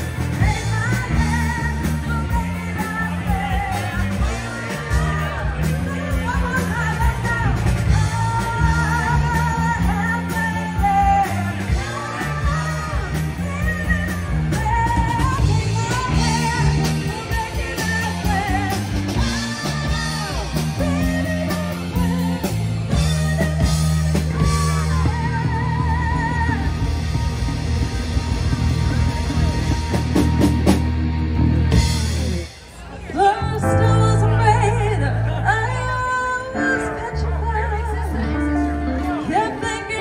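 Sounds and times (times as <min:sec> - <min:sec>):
rock band playing: 0:00.0 - 0:40.0
woman singing: 0:00.4 - 0:27.1, 0:33.2 - 0:40.0.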